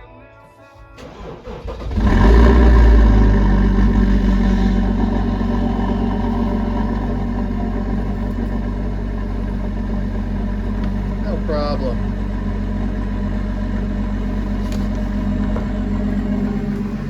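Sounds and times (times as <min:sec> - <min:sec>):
diesel engine starting and idling: 0:00.8 - 0:17.0
starter motor cranking: 0:01.0 - 0:17.0.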